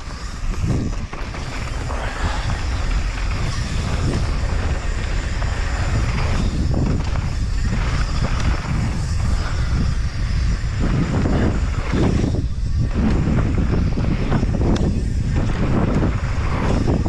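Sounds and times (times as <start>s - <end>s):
tyres rolling over dry dirt: 0.0s - 17.0s
wind buffeting microphone: 0.0s - 17.0s.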